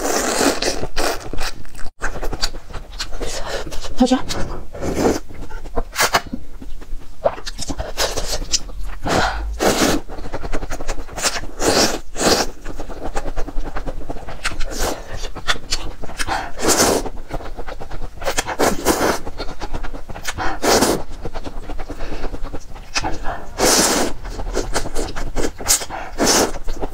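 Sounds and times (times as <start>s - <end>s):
person eating mouth sounds: 0.0s - 26.9s.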